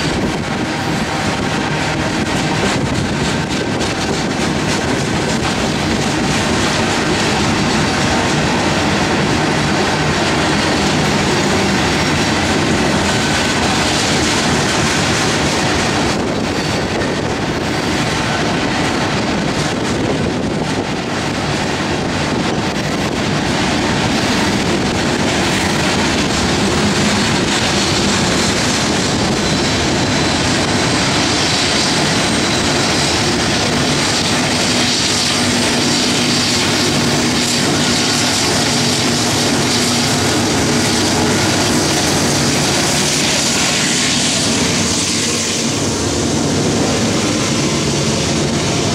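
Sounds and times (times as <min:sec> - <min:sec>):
diesel locomotive drone: 0:00.0 - 0:48.9
train wheels rumbling on rail: 0:00.0 - 0:48.9.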